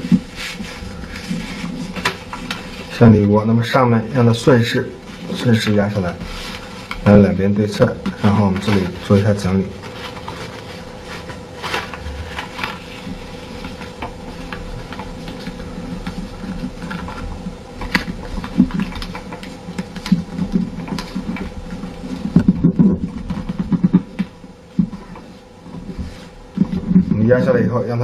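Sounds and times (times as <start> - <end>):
paper being folded and creased: 0.0 - 24.3
thin steady hum: 0.0 - 28.0.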